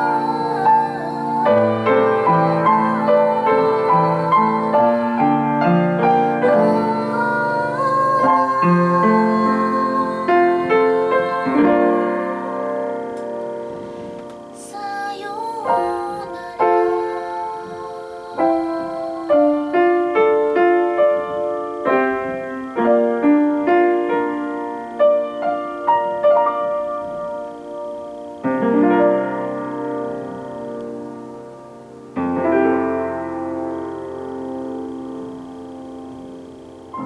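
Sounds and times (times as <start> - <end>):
slow piano ballad: 0.0 - 37.0.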